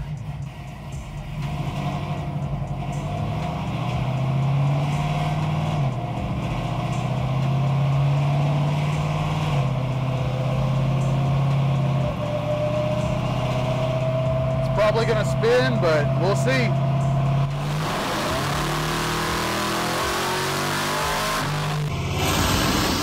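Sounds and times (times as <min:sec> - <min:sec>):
car engine running loud: 0:00.0 - 0:23.0.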